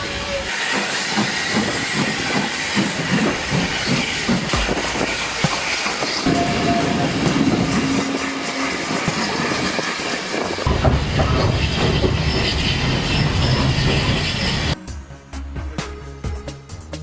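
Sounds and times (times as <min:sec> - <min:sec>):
train running noise: 0:00.0 - 0:14.9
train wheels clicking over rail joints: 0:00.4 - 0:14.8.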